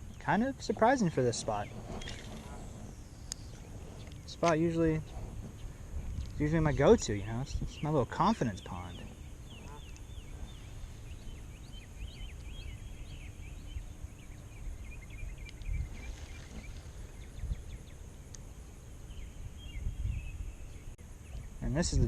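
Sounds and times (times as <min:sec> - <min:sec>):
birds chirping: 0:00.0 - 0:22.0
wind rumble on microphone: 0:00.0 - 0:22.0.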